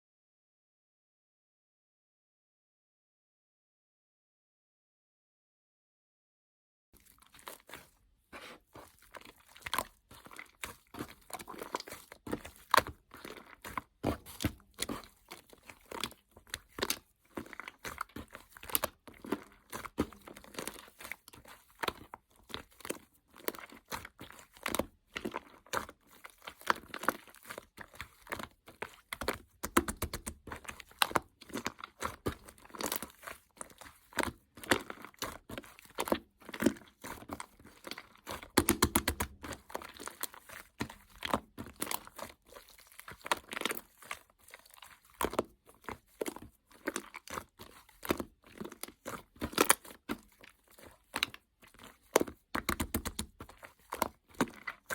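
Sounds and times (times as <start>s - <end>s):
slime squished by hand: 7.0s - 54.9s.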